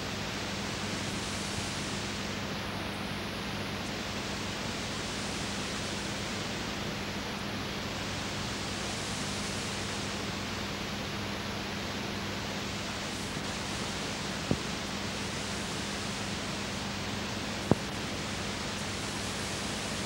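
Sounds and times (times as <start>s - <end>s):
videotape hiss: 0.0s - 20.0s.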